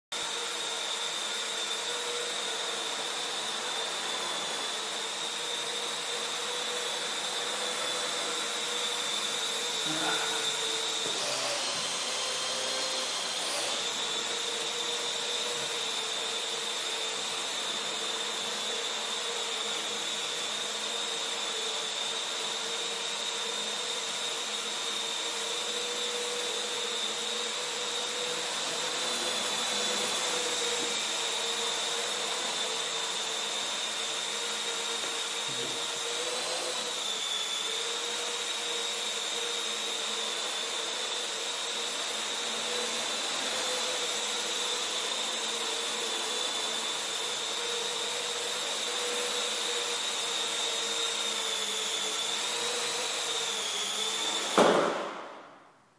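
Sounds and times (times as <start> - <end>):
quadcopter propellers whirring: 0.2 - 55.4.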